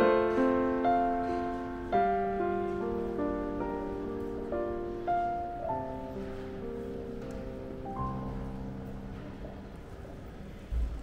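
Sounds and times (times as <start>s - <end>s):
slow soft piano: 0.0s - 11.0s.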